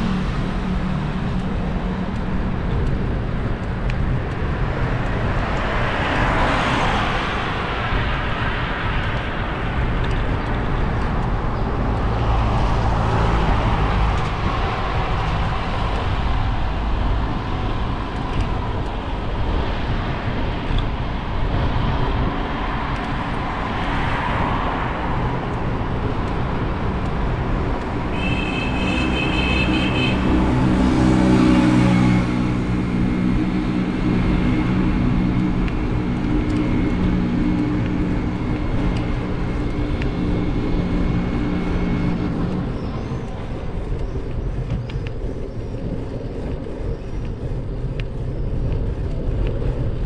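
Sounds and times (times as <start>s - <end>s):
tyre and wind noise: 0.0s - 50.0s
vehicle engine hum: 0.0s - 50.0s.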